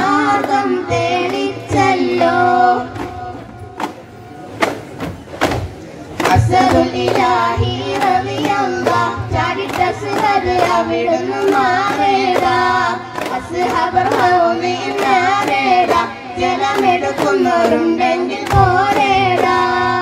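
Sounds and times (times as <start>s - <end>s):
children singing in chorus: 0.0s - 3.6s, 6.2s - 20.0s
frame drums beating: 0.0s - 20.0s.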